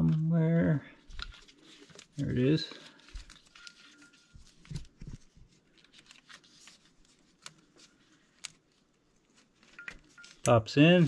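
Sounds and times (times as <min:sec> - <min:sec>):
rustling of plastic wiring: 0:01.0 - 0:11.0.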